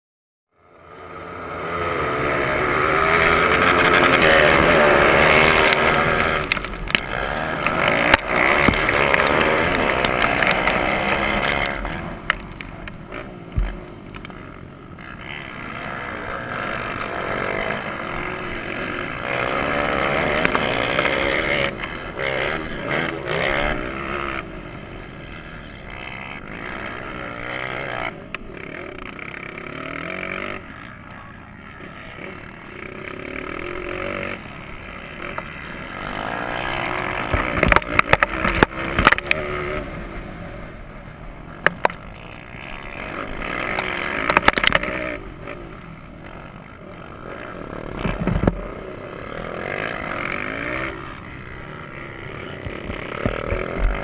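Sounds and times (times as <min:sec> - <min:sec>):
motorcycle engine revving: 0:00.5 - 0:54.0
dirt bikes revving: 0:00.6 - 0:54.0.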